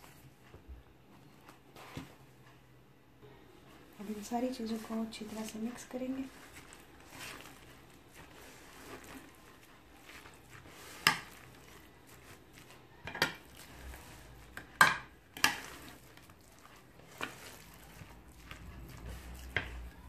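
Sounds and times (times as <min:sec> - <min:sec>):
spoon stirring minced meat: 0:03.4 - 0:20.0.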